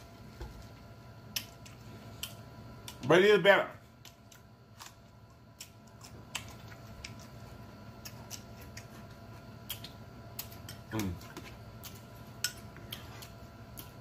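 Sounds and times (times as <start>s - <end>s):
chewing and lip-smacking: 1.2s - 3.0s, 4.0s - 14.0s.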